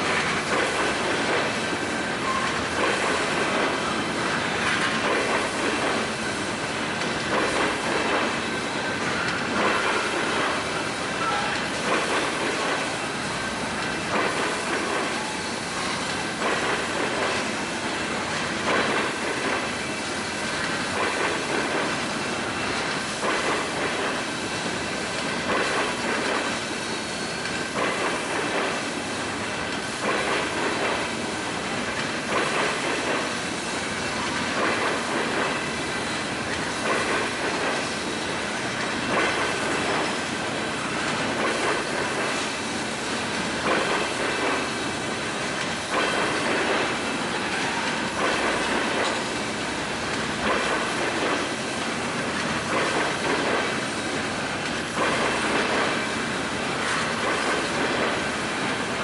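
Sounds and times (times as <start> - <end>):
wheels squealing on rails: 0.0 - 31.7, 32.3 - 45.1, 45.9 - 49.6
train wheels clattering over rail joints: 0.0 - 59.0.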